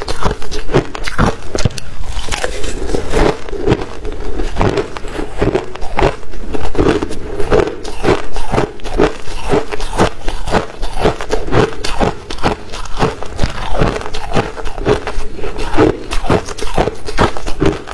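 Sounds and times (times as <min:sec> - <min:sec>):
ice being chewed: 0:00.0 - 0:17.9.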